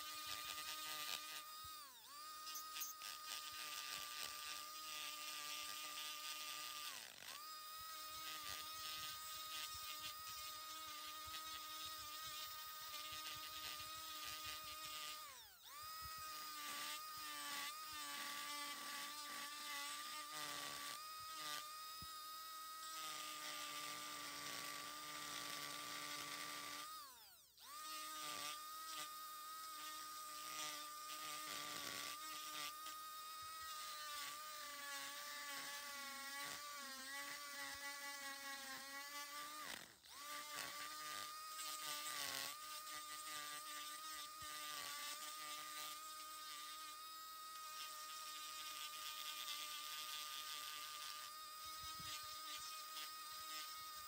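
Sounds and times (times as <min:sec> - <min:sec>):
rotary tool grinding wood: 0:00.0 - 0:54.0.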